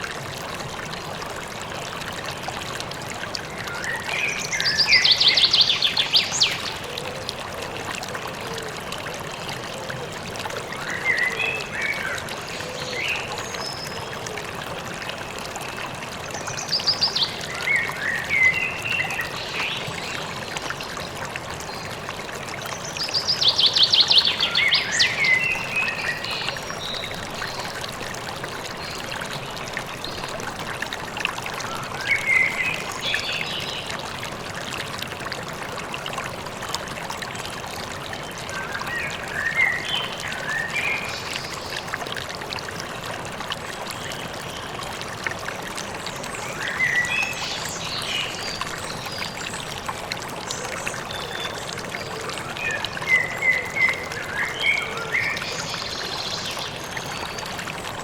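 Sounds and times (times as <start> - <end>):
flowing stream: 0.0 - 58.0.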